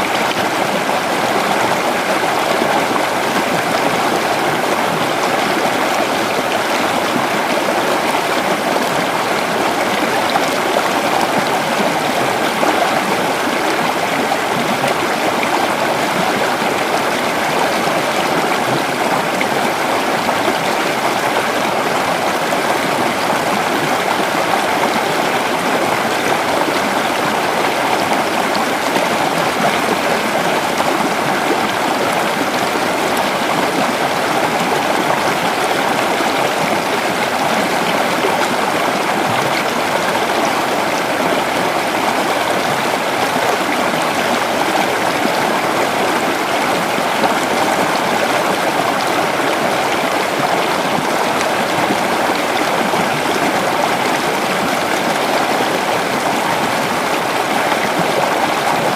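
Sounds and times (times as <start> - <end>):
creek flowing over rocks: 0.0 - 58.9.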